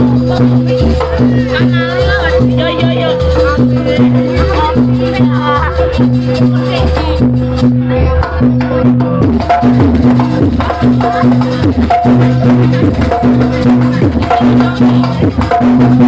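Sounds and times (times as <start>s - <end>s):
hand drums and tuned gongs: 0.0s - 16.0s.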